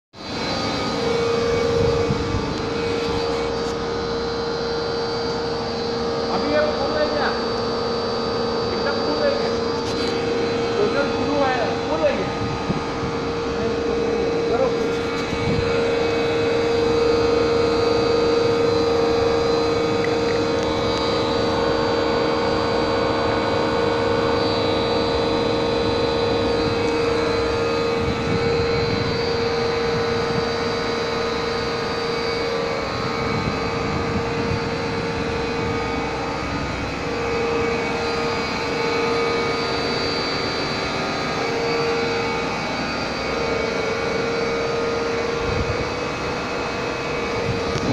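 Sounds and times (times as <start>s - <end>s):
mid-pitched whine: 0.1s - 47.9s
pump machine drone: 0.1s - 47.9s.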